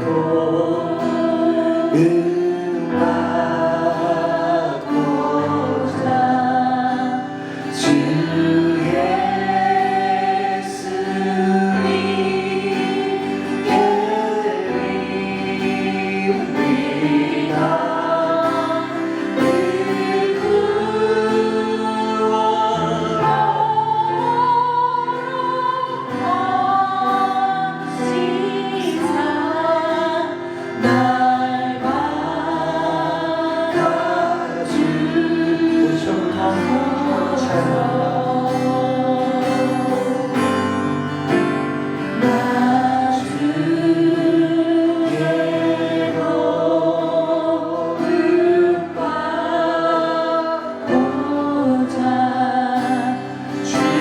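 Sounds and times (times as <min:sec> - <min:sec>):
instrumental accompaniment: 0:00.0 - 0:54.0
voices singing a hymn: 0:00.0 - 0:54.0.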